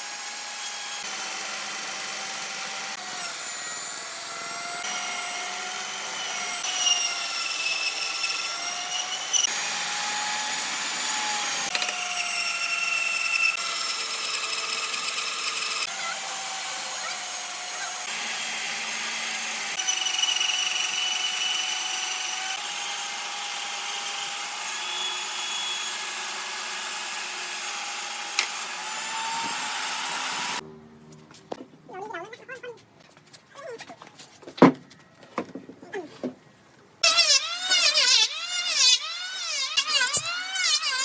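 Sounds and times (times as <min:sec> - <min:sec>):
power tools whining on wood: 0:00.0 - 0:30.6, 0:37.0 - 0:41.0.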